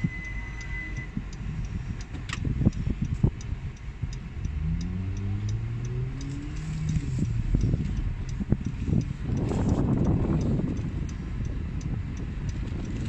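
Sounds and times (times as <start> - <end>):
car engine and road rumble: 0.0 - 13.0
steady ticking: 0.0 - 13.0.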